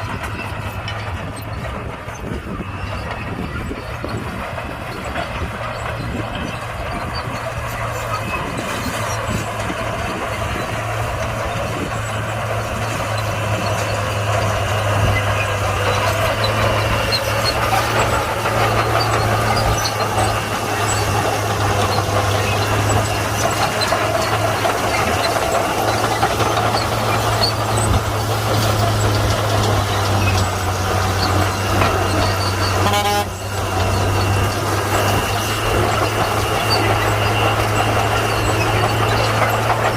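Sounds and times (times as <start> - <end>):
bulldozer diesel engine: 0.0 - 39.9
steel tracks clattering: 0.0 - 39.9.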